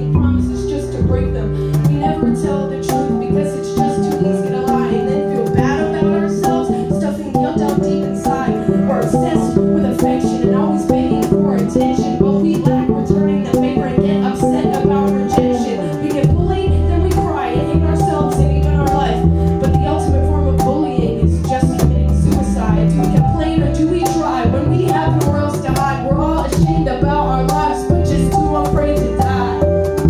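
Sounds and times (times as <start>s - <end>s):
cello: 0.0s - 30.0s
cajon struck in steady rhythm: 1.6s - 30.0s.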